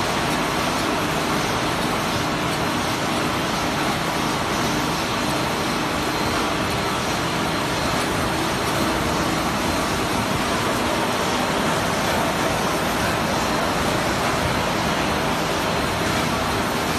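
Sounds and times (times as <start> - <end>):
packaging machinery running: 0.0 - 16.9.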